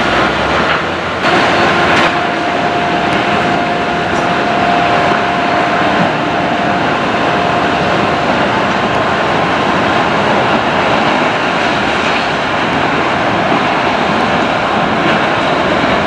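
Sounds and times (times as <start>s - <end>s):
steady high whine: 0.0s - 16.0s
train rushing noise: 0.0s - 16.0s.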